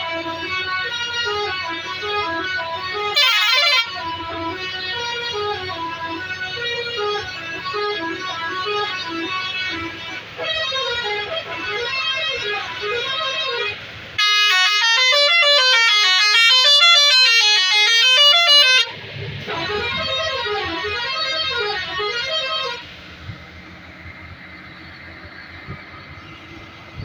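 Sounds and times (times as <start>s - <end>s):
truck musical horn tune: 0.0s - 23.4s
truck engine running: 0.0s - 27.0s.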